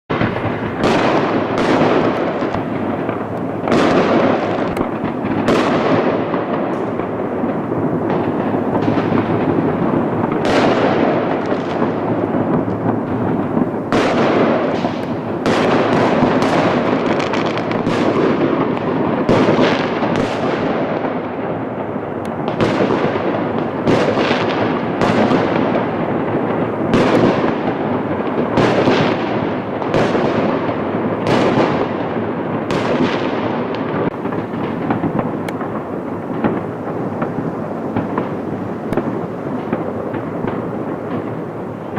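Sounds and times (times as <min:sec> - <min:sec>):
fireworks bangs: 0:00.1 - 0:41.9.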